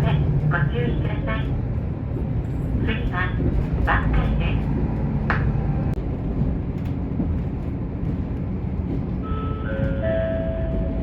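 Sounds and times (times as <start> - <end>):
diesel railcar rumbling: 0.0 - 11.0.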